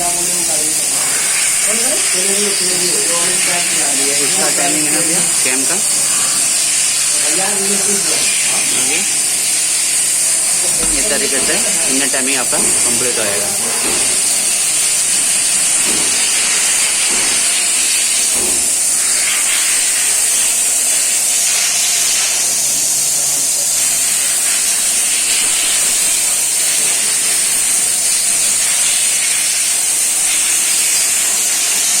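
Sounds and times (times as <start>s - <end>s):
steady loud hiss: 0.0s - 32.0s.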